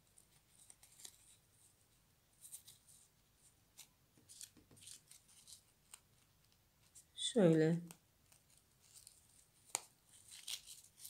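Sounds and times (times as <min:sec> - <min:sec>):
ribbon rustling in fingers: 0:00.0 - 0:07.2, 0:08.2 - 0:11.0.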